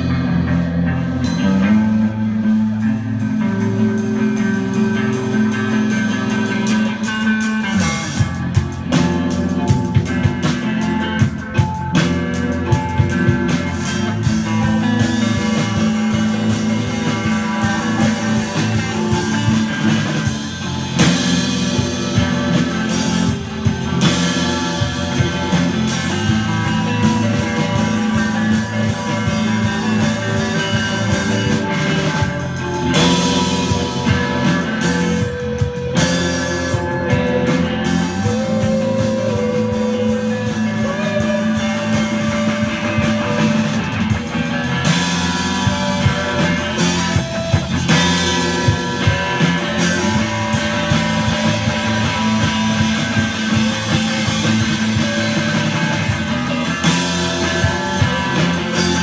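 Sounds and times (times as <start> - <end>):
drum kit: 0.0 - 59.0
electric guitars: 0.0 - 59.0
live rock band playing: 0.0 - 59.0.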